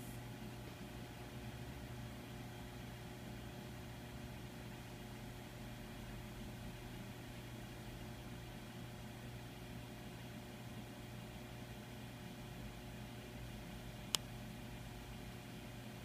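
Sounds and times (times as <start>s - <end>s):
room hum and hiss: 0.0s - 16.0s.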